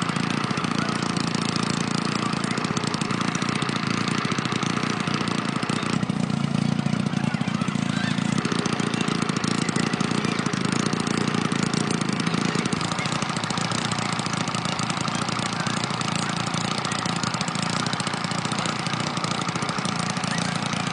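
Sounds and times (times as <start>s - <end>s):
motor running with fast pulse: 0.0s - 20.9s.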